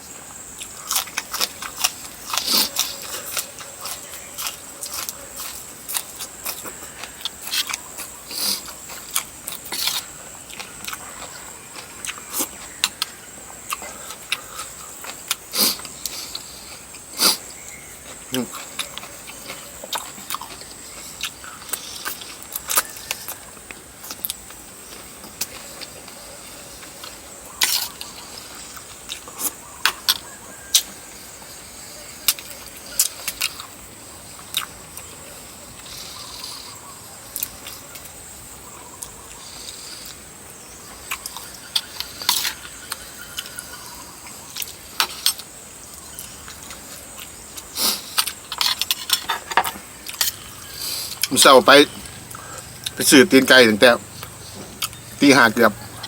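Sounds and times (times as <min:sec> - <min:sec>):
person chewing food: 0:00.2 - 0:56.0.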